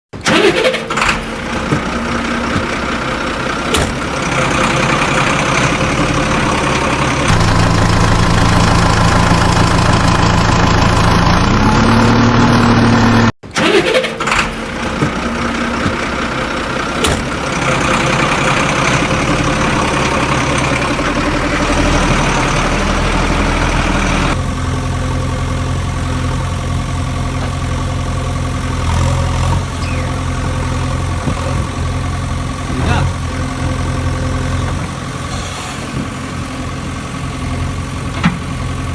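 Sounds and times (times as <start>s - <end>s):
vehicle engines running: 0.2s - 38.9s
engine revving: 3.7s - 16.0s, 17.0s - 38.9s.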